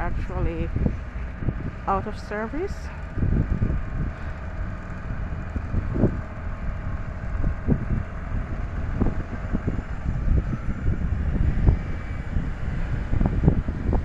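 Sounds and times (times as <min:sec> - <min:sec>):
street traffic rumble: 0:00.0 - 0:14.0
wind buffeting microphone: 0:00.0 - 0:14.0.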